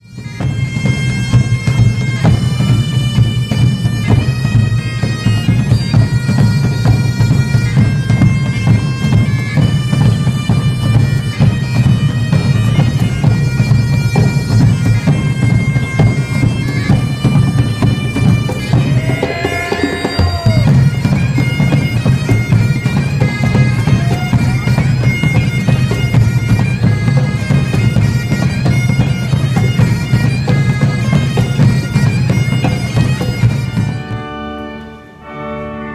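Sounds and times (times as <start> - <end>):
bagpipe drone: 0.0 - 35.9
bagpipes playing a tune: 0.0 - 35.9.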